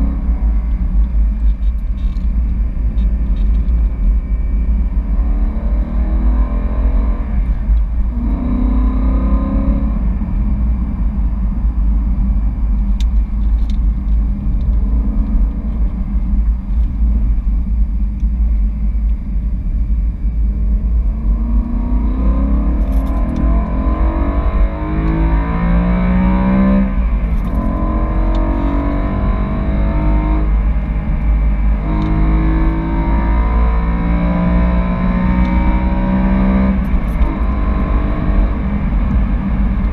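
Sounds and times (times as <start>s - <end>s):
car engine accelerating: 0.0s - 19.4s, 20.3s - 39.9s
road and wind noise: 0.0s - 39.9s.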